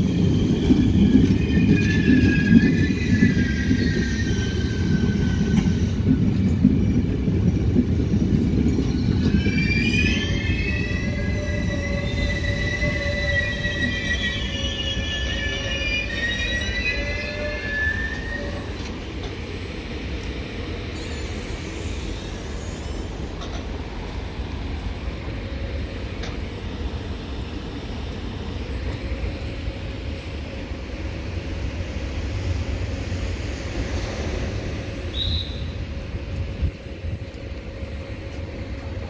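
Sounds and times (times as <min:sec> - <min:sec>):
train low rumble: 0:00.0 - 0:39.0
train wheels squealing on rails: 0:00.0 - 0:39.0.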